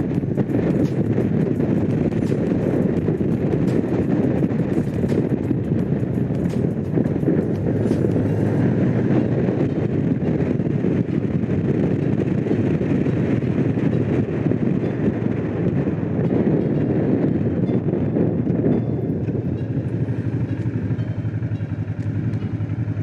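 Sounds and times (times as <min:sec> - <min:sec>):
motorcycle engine running: 0:00.0 - 0:14.7, 0:18.1 - 0:23.0
wind noise on microphone: 0:00.0 - 0:23.0.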